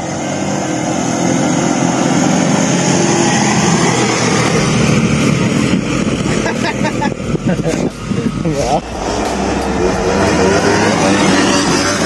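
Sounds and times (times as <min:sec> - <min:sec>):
rushing noise: 0:00.0 - 0:12.0.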